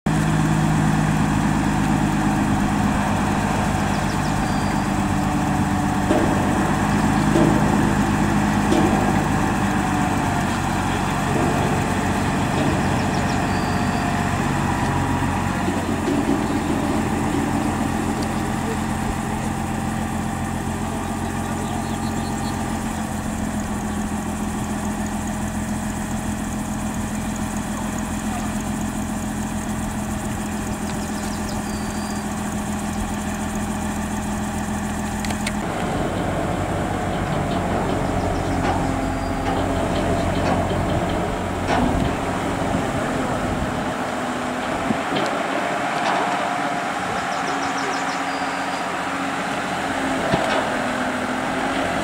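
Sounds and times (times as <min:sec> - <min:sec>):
crane engine running: 0:00.1 - 0:52.0.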